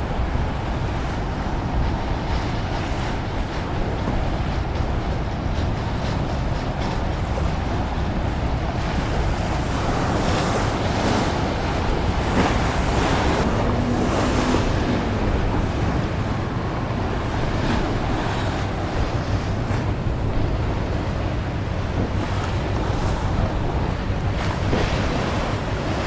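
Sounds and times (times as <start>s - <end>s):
waves washing: 0.0s - 26.0s
wind buffeting microphone: 0.0s - 26.0s
steady low rumble: 3.4s - 26.0s.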